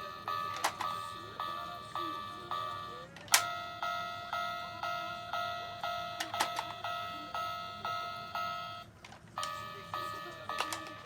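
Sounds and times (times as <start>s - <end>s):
toy crossing warning bell: 0.0s - 11.0s.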